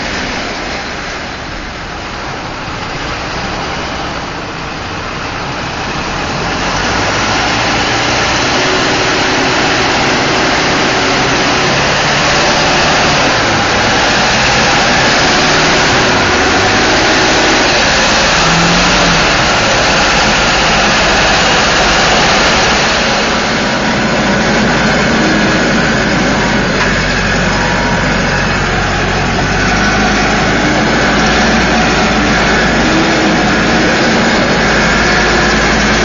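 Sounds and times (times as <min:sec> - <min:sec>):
diesel engine running loud: 0:00.0 - 0:36.0.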